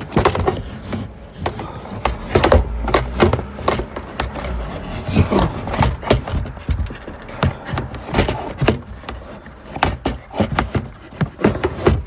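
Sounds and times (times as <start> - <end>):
phone handling rumble: 0.0 - 12.0
plastic trim knocking and rattling: 0.0 - 12.0.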